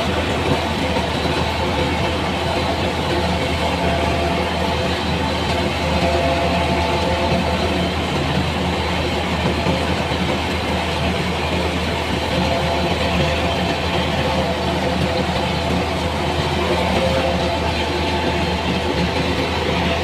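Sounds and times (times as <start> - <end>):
heavy machine engine droning: 0.0 - 20.0.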